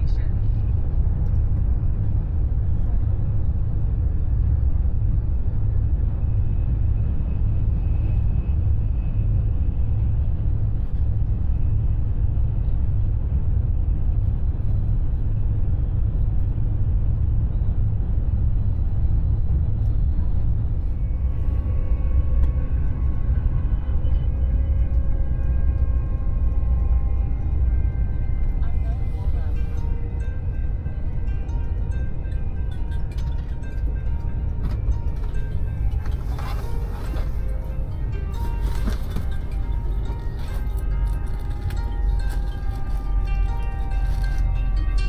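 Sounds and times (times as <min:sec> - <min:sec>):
faint steady tones: 0:00.0 - 0:45.0
train interior rumble: 0:00.0 - 0:45.0.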